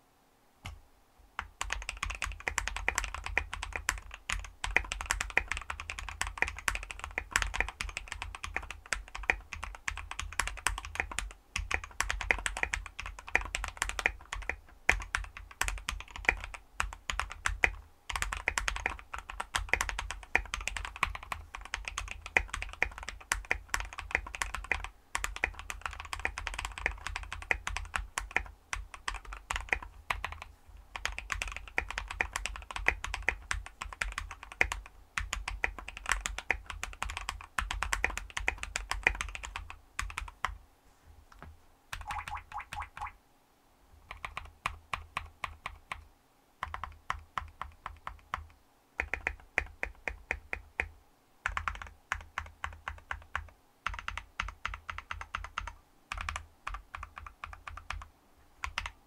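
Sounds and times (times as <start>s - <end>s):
typing on mechanical keyboard: 1.4s - 40.6s, 44.1s - 46.0s, 46.6s - 59.0s.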